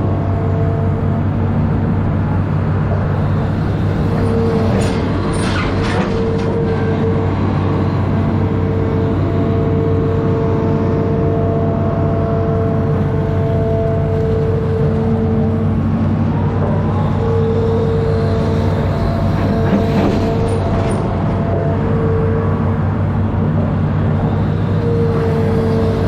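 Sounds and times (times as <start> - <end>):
diesel engine running under load: 0.0 - 26.0
steady whine: 0.0 - 26.0.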